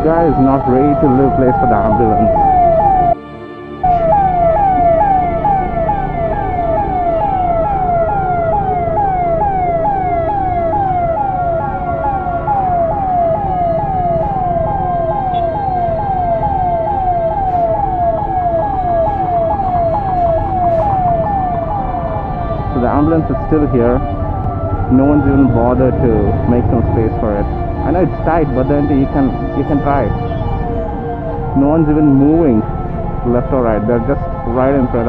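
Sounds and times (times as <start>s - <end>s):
low rumble of traffic: 0.0s - 3.2s, 3.8s - 35.0s
ambulance siren yelping: 0.0s - 35.0s.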